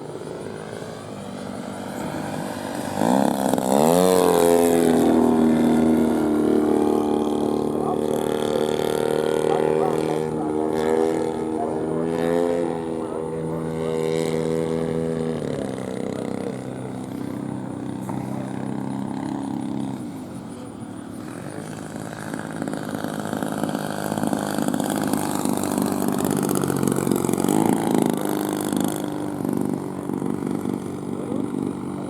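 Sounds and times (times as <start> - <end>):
model airplane engine running: 0.0 - 32.0.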